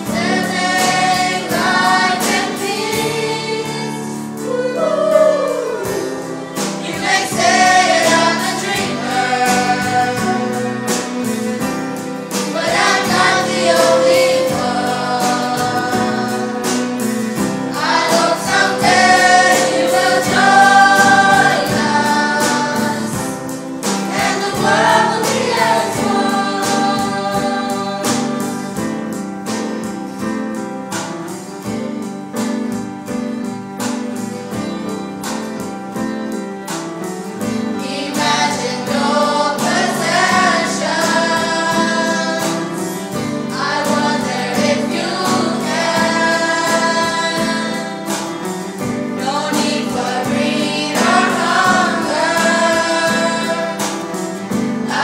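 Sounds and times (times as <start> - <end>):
choir singing: 0.0 - 29.2, 37.6 - 55.0
instrumental backing: 0.0 - 55.0.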